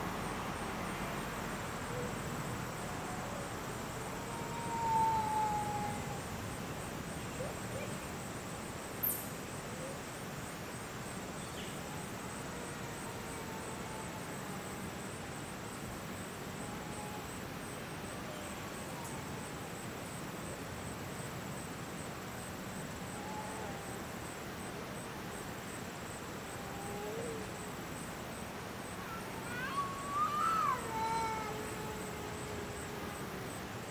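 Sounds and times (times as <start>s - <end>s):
steady background hiss: 0.0s - 33.9s
pulsing insect trill: 1.5s - 33.9s.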